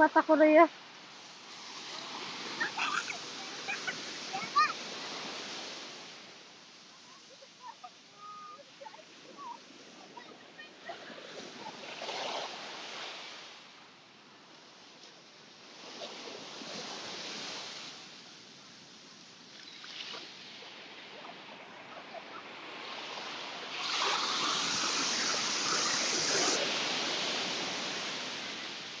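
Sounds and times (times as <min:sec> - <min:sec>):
ocean waves breaking on beach: 0:00.0 - 0:29.0.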